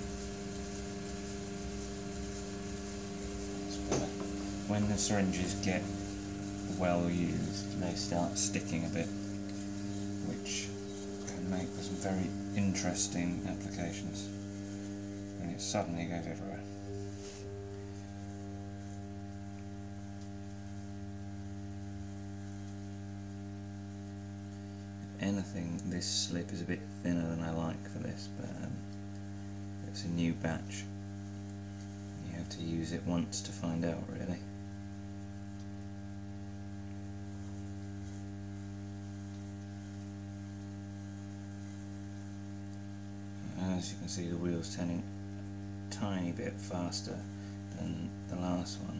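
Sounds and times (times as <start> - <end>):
pottery wheel motor humming: 0.0 - 48.9.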